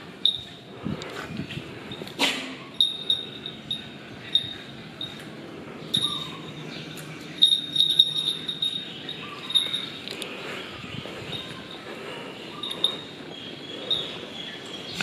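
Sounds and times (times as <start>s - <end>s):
small metal bells tinkling: 0.2s - 0.7s, 1.8s - 10.4s, 11.0s - 14.6s.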